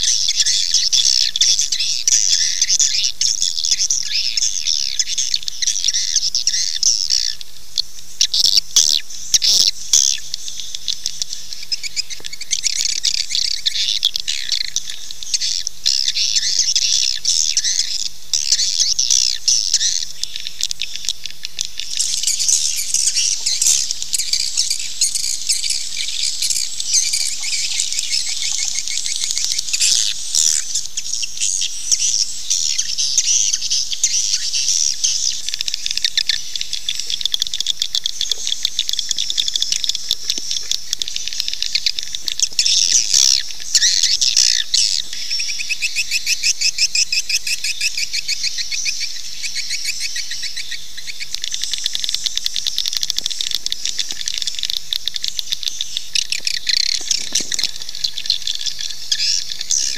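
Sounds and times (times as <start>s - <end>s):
swiftlet calls twittering: 0.0s - 7.4s, 8.2s - 59.9s.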